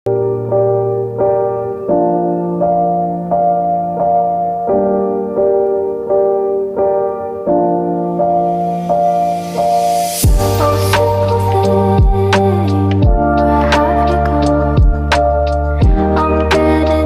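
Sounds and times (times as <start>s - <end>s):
piano-like keyboard music: 0.1s - 17.0s.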